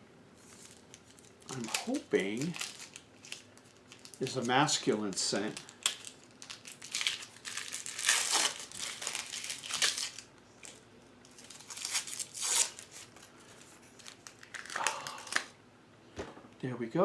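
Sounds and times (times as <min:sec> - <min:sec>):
soap wrapping crinkling and tearing: 0:00.4 - 0:15.5.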